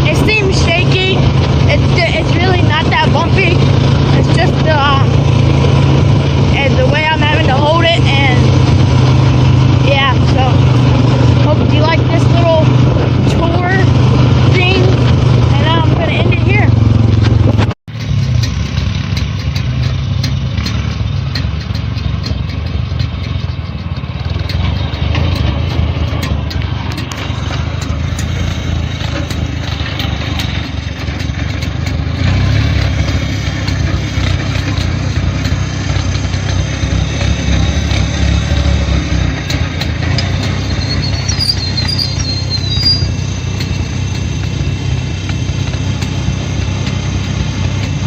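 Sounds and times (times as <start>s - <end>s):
small engine running: 0.0s - 48.0s.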